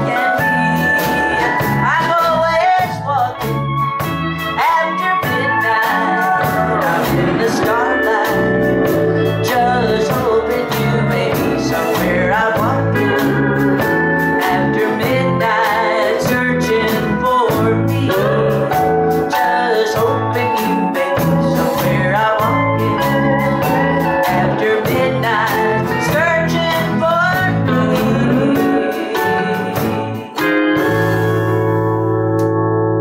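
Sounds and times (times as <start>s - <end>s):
drums keeping a steady beat: 0.0s - 32.0s
country band playing live: 0.0s - 33.0s.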